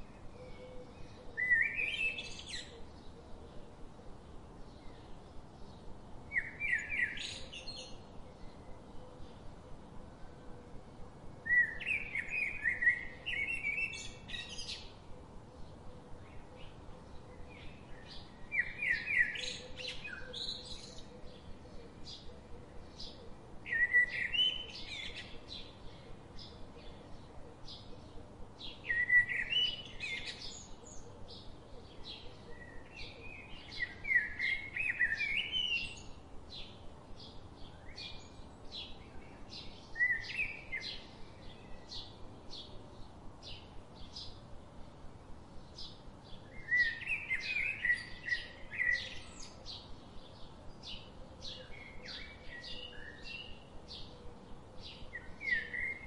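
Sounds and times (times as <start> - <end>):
birds warbling song: 0.0 - 56.0.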